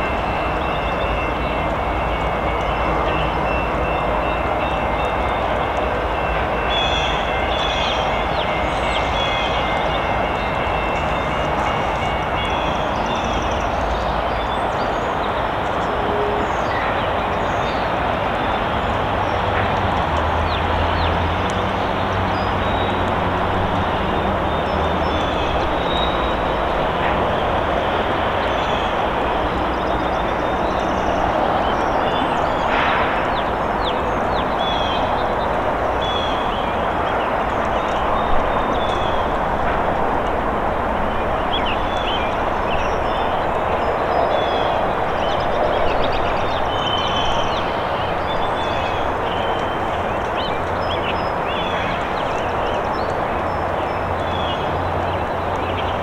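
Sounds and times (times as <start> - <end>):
distant diesel locomotive drone: 0.0 - 56.0.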